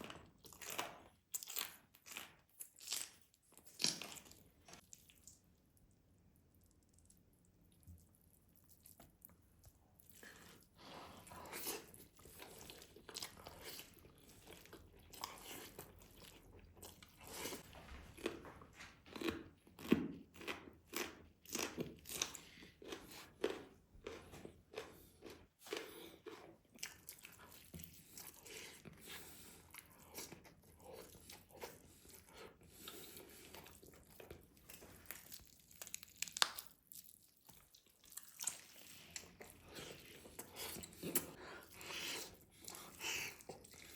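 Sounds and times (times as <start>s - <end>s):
close chewing and biting: 0.0s - 5.5s, 6.5s - 43.9s.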